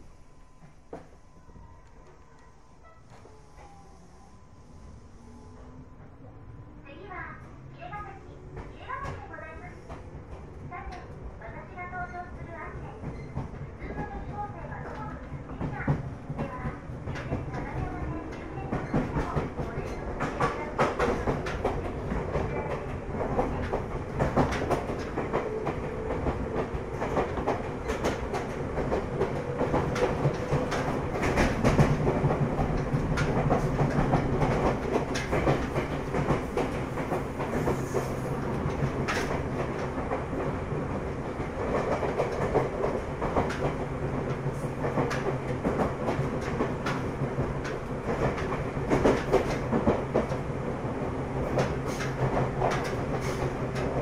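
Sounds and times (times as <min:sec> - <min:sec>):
railcar rumble and hum: 0:00.0 - 0:54.0
wheels clickety-clack on rail joints: 0:07.0 - 0:54.0.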